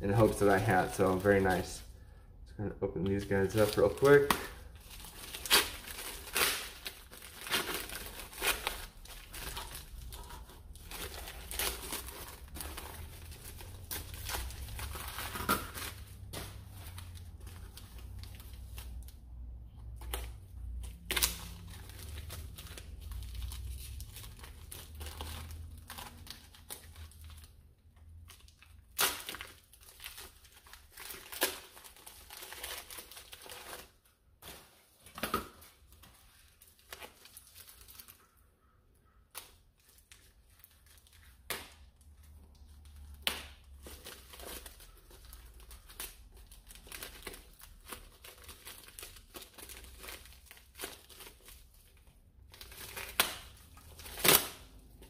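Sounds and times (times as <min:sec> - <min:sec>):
plastic bags crinkling and tearing: 0:00.0 - 0:01.9, 0:02.9 - 0:38.4, 0:39.3 - 0:55.0.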